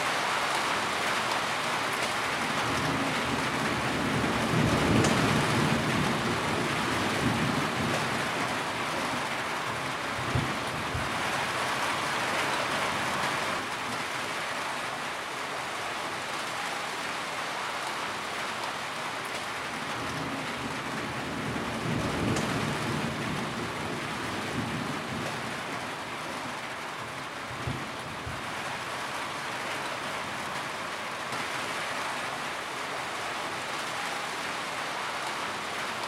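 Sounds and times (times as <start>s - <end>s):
rain on a tin roof: 0.0s - 36.0s.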